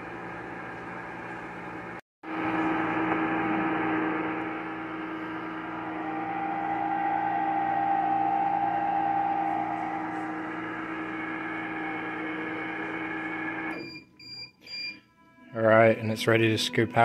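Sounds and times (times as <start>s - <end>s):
higher motor tone: 0.0s - 13.8s
ice cream maker motor humming: 0.0s - 13.8s.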